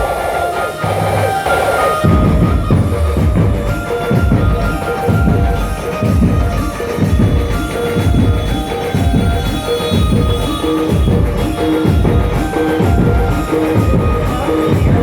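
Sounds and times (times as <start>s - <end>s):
band playing loud instrumental music: 0.0s - 15.0s
heavy steady drum beat: 0.0s - 15.0s.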